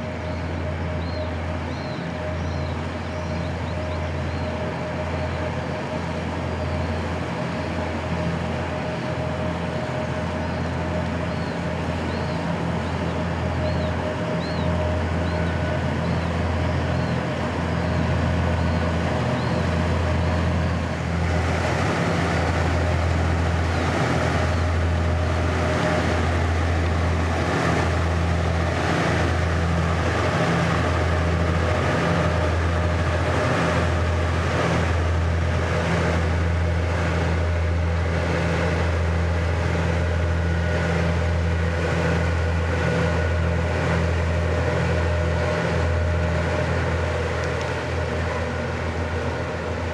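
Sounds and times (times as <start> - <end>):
diesel engine low drone: 0.0 - 49.9.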